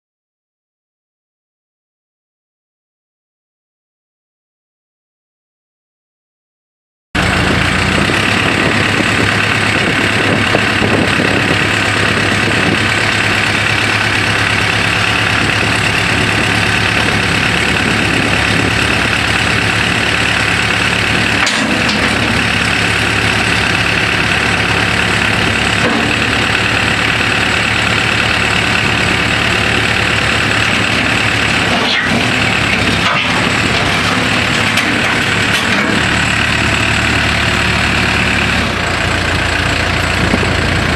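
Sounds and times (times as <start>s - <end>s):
diesel engine idling: 7.2s - 40.9s.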